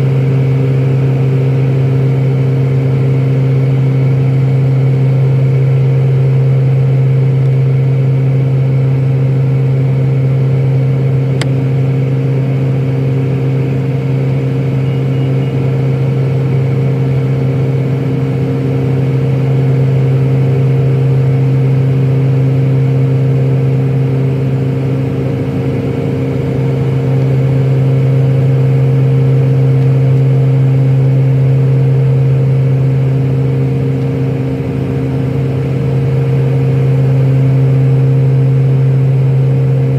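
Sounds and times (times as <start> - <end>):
turboprop cabin engine drone: 0.0 - 39.9.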